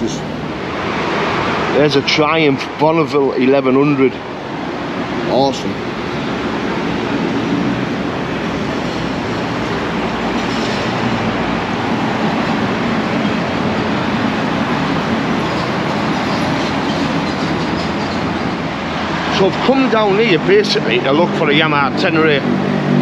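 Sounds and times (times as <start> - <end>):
heavy vehicle traffic rumbling: 0.0 - 23.0.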